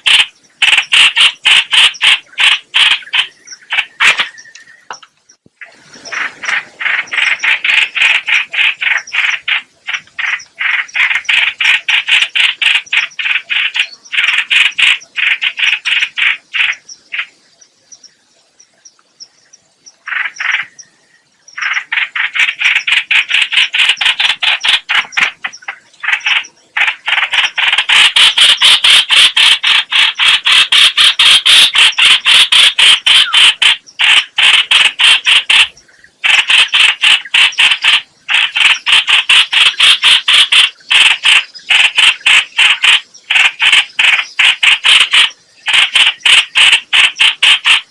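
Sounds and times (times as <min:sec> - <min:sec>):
bird harsh chattering call: 0:00.0 - 0:05.0, 0:06.0 - 0:17.4, 0:20.0 - 0:20.8, 0:21.5 - 0:47.9.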